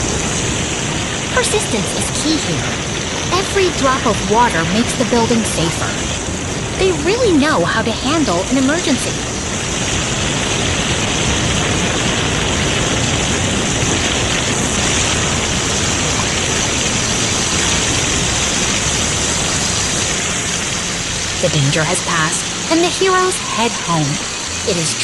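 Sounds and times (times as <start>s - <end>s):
water jetting from fire hose: 0.0s - 25.0s.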